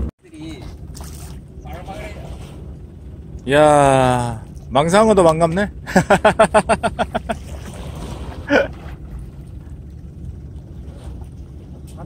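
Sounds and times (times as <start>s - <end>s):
sea noise: 0.0s - 12.0s.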